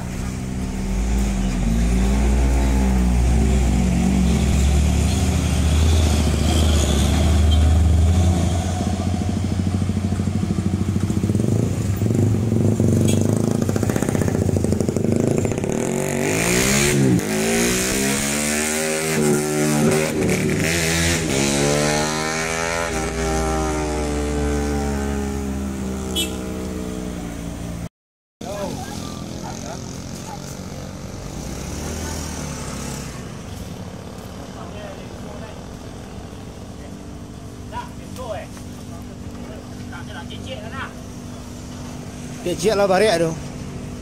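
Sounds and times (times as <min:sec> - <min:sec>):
vehicle engines revving: 0:00.0 - 0:44.0.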